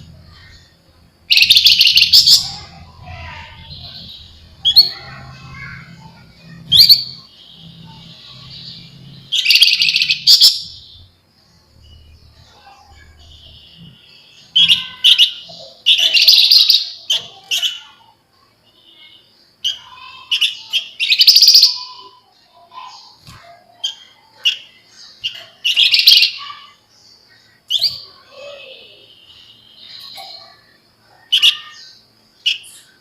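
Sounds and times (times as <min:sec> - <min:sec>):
bird singing shrill chattering trills: 0:00.0 - 0:33.0.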